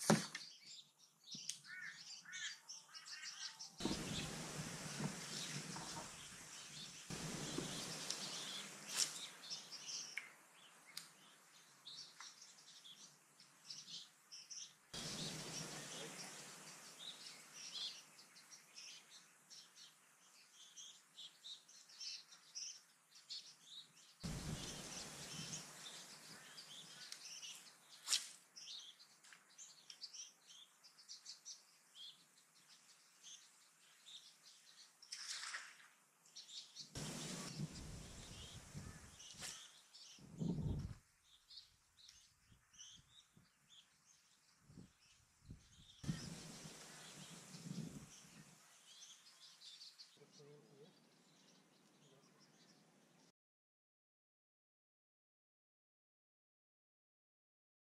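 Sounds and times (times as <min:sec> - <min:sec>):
small birds chirping: 0:00.0 - 0:53.3.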